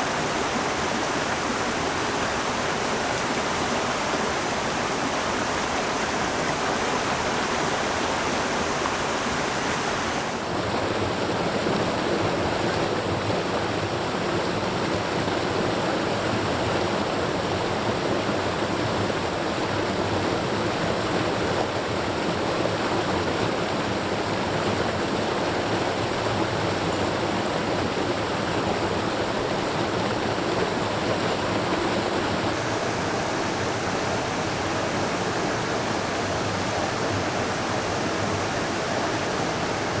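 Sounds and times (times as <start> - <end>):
stream water rushing: 0.0 - 40.0.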